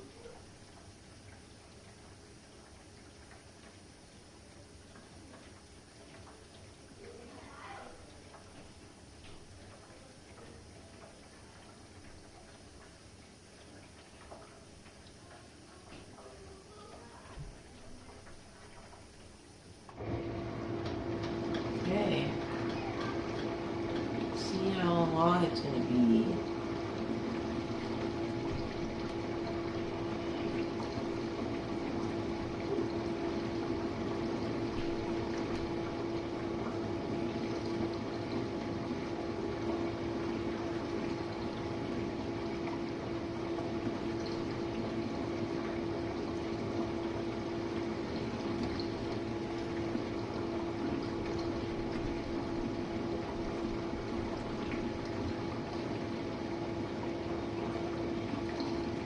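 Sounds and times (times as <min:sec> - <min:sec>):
dishwasher pump motor hum: 0:00.0 - 0:59.0
water spraying inside dishwasher: 0:00.0 - 0:59.0.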